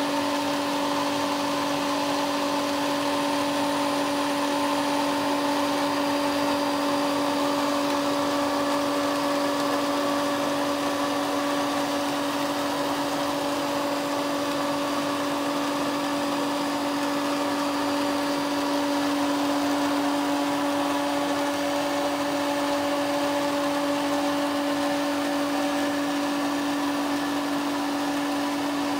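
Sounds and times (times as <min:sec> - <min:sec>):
water pump motor humming: 0:00.0 - 0:28.9.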